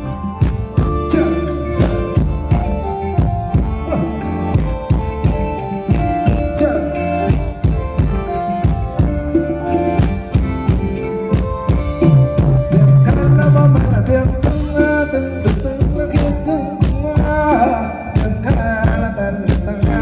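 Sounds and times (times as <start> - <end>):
live band playing dance music: 0.0 - 20.0
steady drum beat: 0.0 - 20.0.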